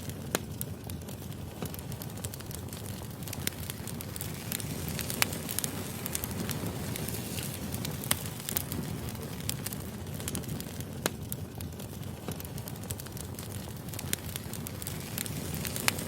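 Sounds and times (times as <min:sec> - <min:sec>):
fire rumbling: 0:00.0 - 0:16.0
firewood crackling and popping: 0:00.0 - 0:16.0.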